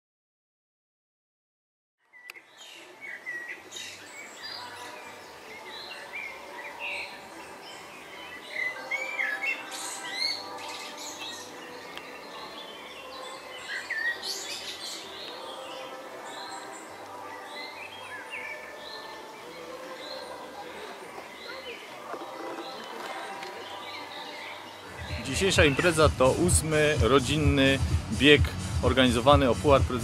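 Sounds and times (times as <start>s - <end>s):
songbirds chirping and singing: 2.0s - 30.0s.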